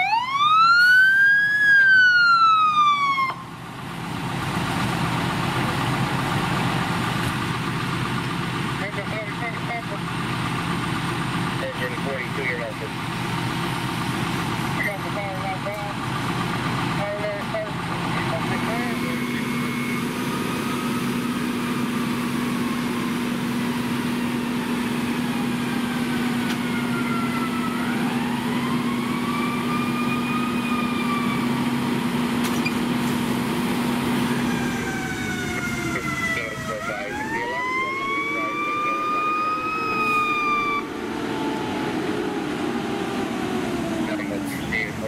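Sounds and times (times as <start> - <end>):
fire engine siren wailing: 0.0 - 45.0
steady engine hum: 0.0 - 45.0.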